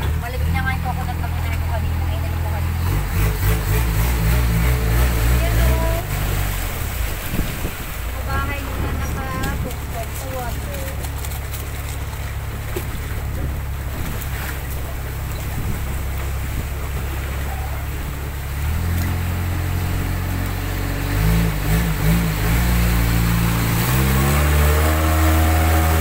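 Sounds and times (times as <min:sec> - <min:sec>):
motorboat engine running: 0:00.0 - 0:26.0
water noise: 0:00.0 - 0:26.0.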